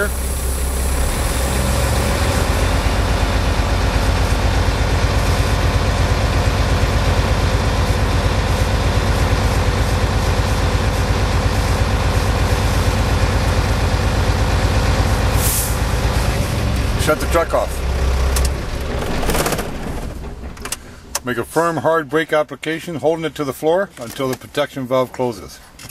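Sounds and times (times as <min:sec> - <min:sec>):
diesel truck engine idling: 0:00.0 - 0:21.7.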